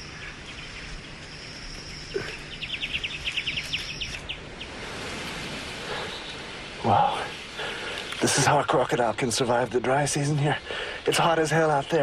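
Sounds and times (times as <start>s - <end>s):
bird chirping: 0.0s - 4.8s, 5.9s - 12.0s
soft rustling hiss: 0.0s - 12.0s.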